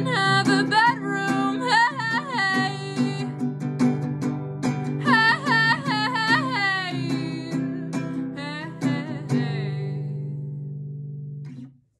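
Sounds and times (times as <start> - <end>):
acoustic guitar strumming: 0.0 - 11.8.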